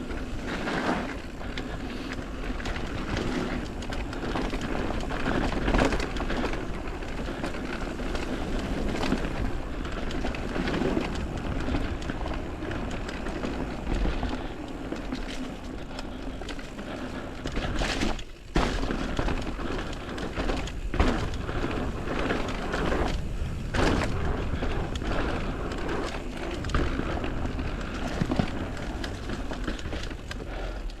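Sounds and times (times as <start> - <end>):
bike knocking on bumps: 0.0 - 31.0
bike rolling and rattling: 0.0 - 31.0.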